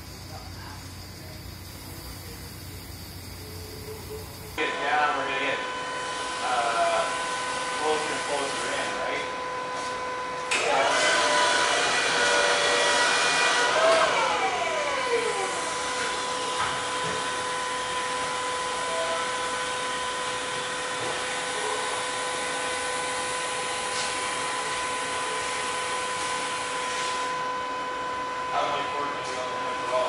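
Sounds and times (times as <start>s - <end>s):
steady machine hum: 0.0s - 30.0s
hydraulic pump motor whining: 1.6s - 30.0s.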